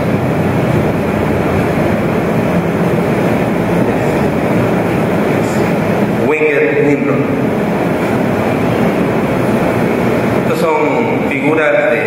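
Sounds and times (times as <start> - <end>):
loud machine rumbling: 0.0 - 12.0.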